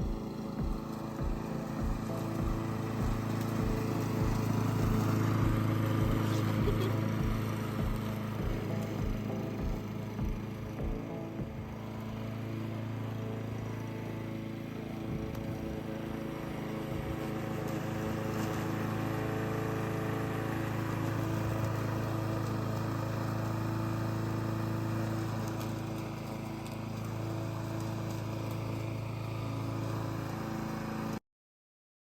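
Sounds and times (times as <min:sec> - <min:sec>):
lawn mower engine running: 0:00.0 - 0:31.2.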